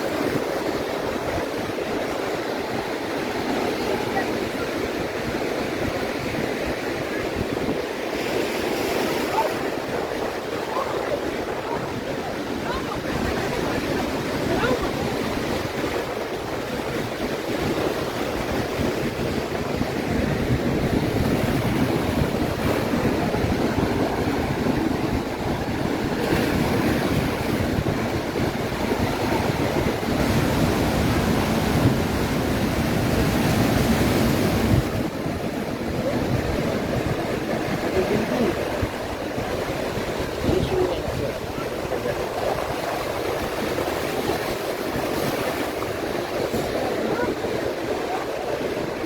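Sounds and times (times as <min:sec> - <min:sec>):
ocean surf breaking: 0:00.0 - 0:49.0
wind buffeting microphone: 0:00.0 - 0:49.0.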